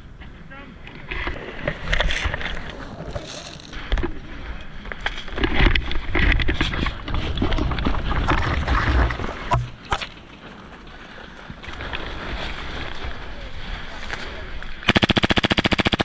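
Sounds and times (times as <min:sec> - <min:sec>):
low wind rumble on microphone: 0:00.0 - 0:14.9.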